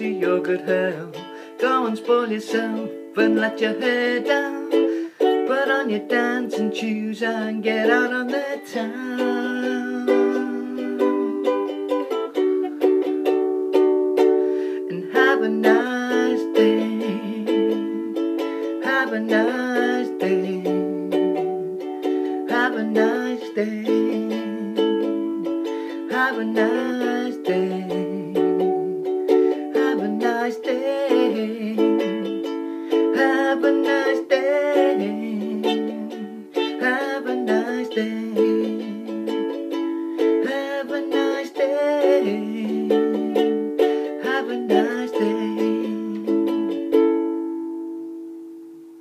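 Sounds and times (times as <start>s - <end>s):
ukulele strumming chords: 0.0s - 49.0s.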